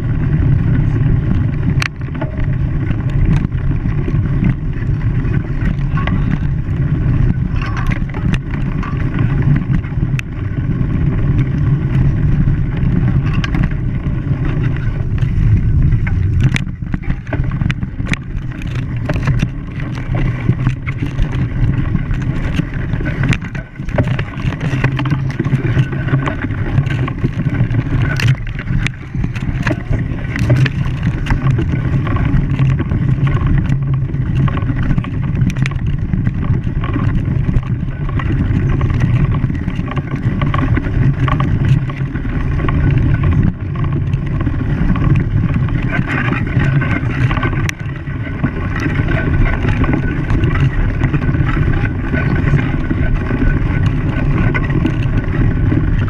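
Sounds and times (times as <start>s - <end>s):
engine humming: 0.0s - 56.0s
sharp knocks and clatters: 1.8s - 10.6s, 12.7s - 52.9s.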